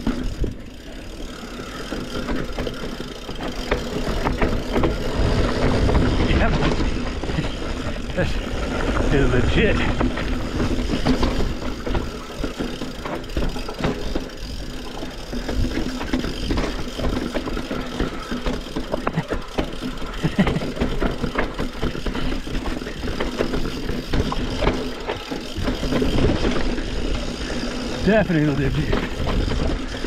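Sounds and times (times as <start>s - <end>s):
bike chain and frame rattling: 0.0s - 30.0s
bike tyres rumbling on dirt: 0.0s - 30.0s.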